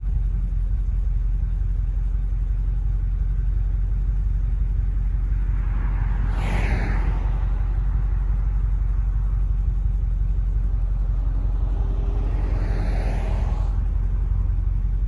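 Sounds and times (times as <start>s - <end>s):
car engine approaching: 0.0s - 15.0s
steady low rumble: 0.0s - 15.0s.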